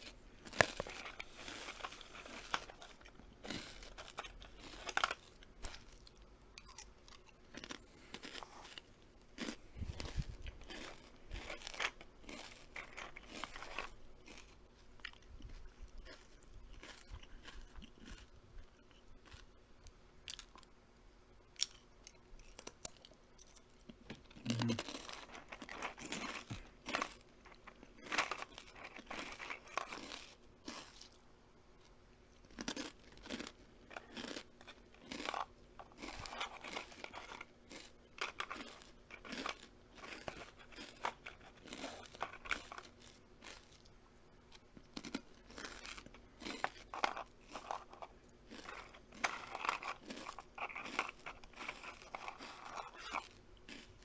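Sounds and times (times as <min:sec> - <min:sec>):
crunchy chewing and biting: 0:00.0 - 0:20.7, 0:21.5 - 0:31.2, 0:31.8 - 0:54.0.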